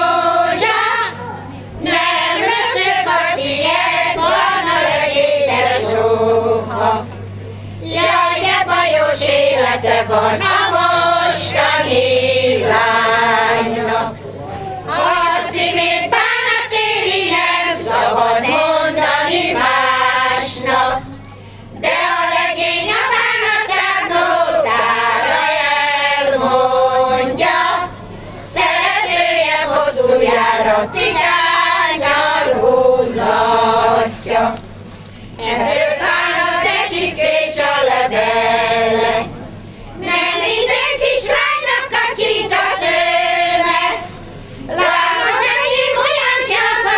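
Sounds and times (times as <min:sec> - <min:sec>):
women's choir singing: 0:00.0 - 0:34.8, 0:35.4 - 0:46.9.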